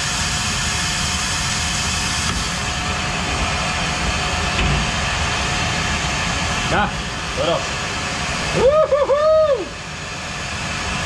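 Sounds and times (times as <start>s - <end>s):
machine fan rushing and rumbling: 0.0s - 11.0s.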